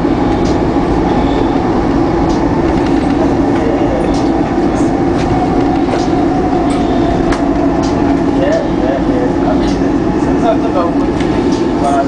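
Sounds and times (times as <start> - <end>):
train rumble and hum: 0.0 - 12.0
wheels clicking on rails: 0.0 - 12.0.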